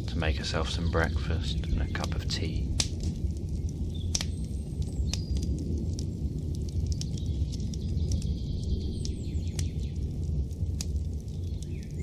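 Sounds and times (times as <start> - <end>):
birds chirping: 0.0 - 10.2, 11.1 - 12.0
fire crackling and popping: 0.0 - 12.0.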